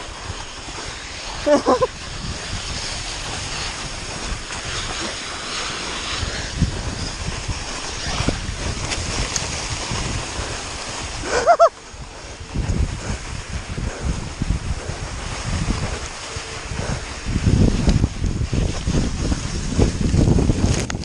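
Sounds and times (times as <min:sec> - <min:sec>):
tyres hissing through snow: 0:00.0 - 0:21.0
wind rushing on microphone: 0:00.0 - 0:21.0.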